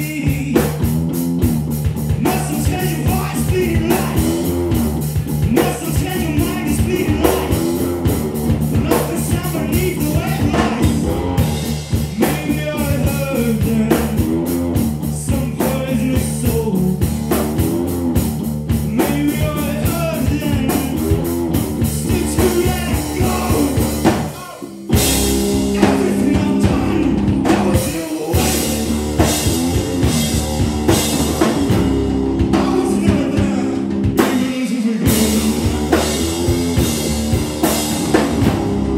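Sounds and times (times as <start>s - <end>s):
man singing: 0.0s - 1.0s, 2.1s - 18.0s, 18.8s - 30.2s, 32.4s - 37.0s
live rock band: 0.0s - 38.9s.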